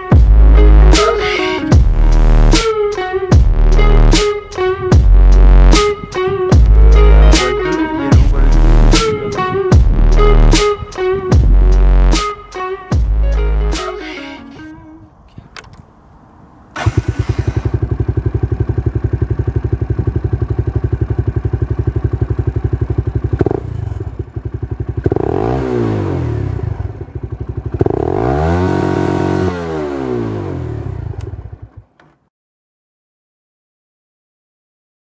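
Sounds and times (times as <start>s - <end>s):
motorcycle engine idling and revving: 0.0s - 32.2s.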